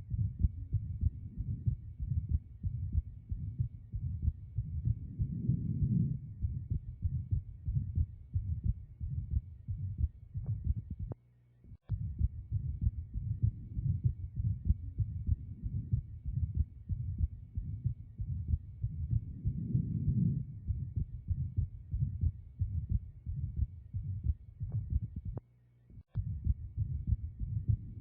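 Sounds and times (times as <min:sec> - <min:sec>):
heartbeats through stethoscope: 0:00.0 - 0:11.2, 0:11.9 - 0:25.4, 0:26.1 - 0:28.0.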